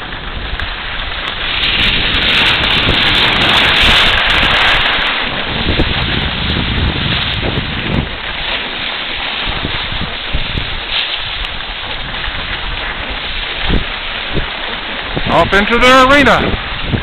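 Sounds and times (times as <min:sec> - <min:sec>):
skis sliding over packed snow: 0:00.0 - 0:17.0
wind rushing over microphone: 0:00.0 - 0:17.0.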